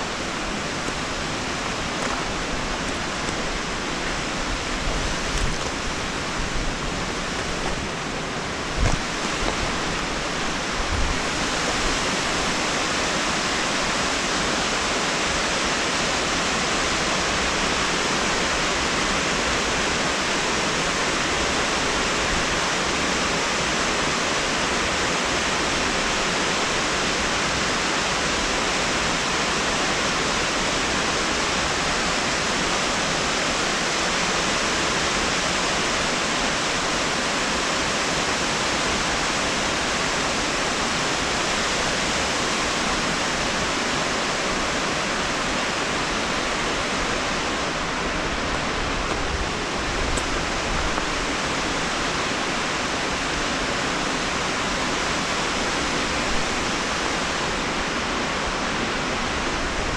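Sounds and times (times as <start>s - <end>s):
water rushing over rocks: 0.0s - 59.9s.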